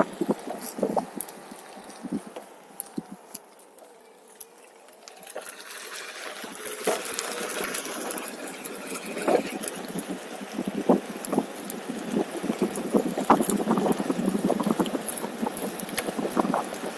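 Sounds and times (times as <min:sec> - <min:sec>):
tyre rolling along a trail: 0:00.0 - 0:16.9.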